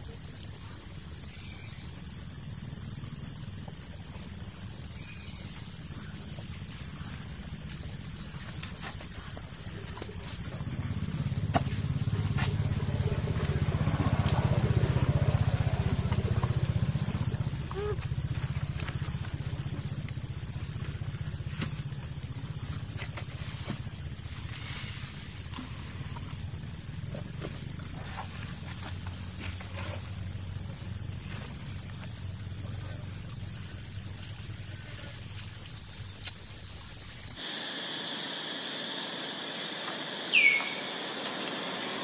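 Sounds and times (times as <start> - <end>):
high-pitched insect drone: 0.0 - 42.0
lower-pitched insect buzz: 0.0 - 42.0.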